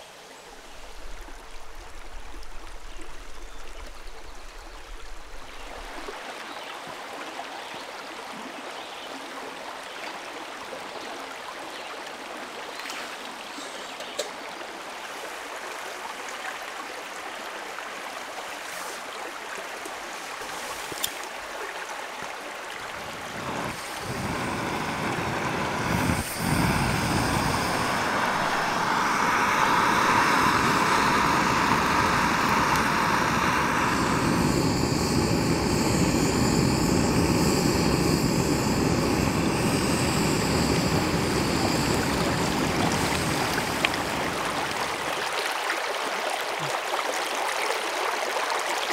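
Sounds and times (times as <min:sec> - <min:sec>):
deep loud water rush: 0:00.0 - 0:06.5, 0:14.7 - 0:48.9
running water rushing: 0:00.0 - 0:48.9.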